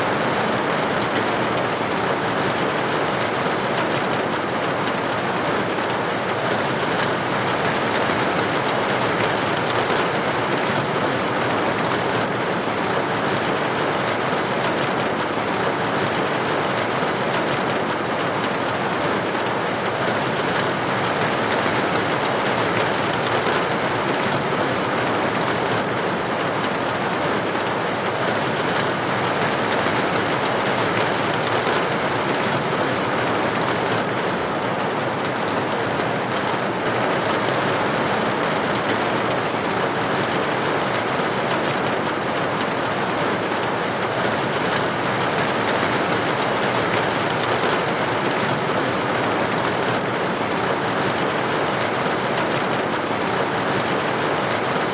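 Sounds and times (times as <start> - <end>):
rain pattering on window: 0.0 - 54.9.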